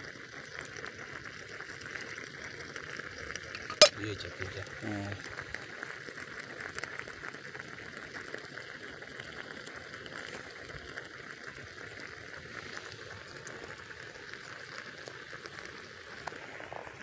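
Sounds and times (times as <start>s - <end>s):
campfire crackling: 0.0s - 17.0s
coffee pots hissing and bubbling: 0.0s - 17.0s.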